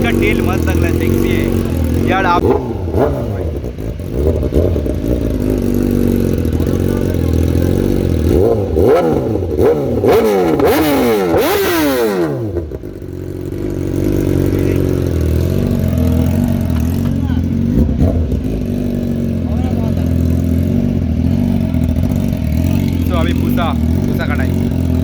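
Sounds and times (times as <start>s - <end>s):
motorcycle engine idling: 0.0s - 25.0s
motorcycle engine revving: 0.0s - 25.0s.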